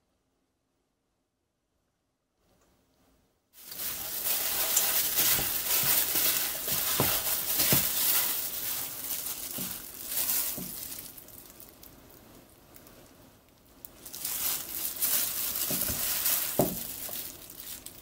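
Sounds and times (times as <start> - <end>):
plastic glove crinkling: 3.6 - 18.0
wet squishing of noodles: 3.6 - 18.0.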